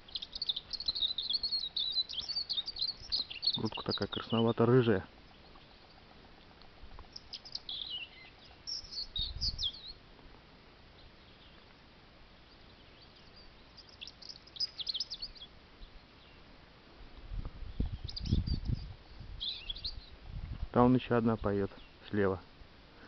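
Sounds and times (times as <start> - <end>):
robin singing: 0.0 - 10.0, 10.9 - 11.8, 12.4 - 16.5, 17.7 - 20.2, 20.8 - 22.4.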